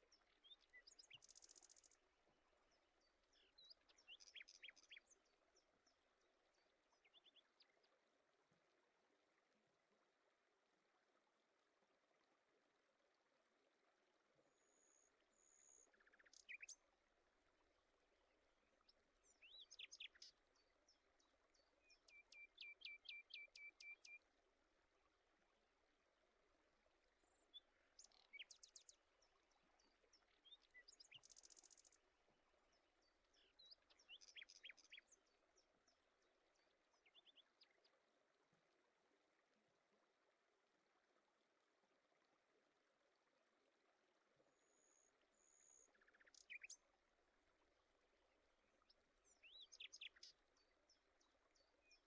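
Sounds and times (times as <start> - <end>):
faint birdsong: 0.0 - 52.0.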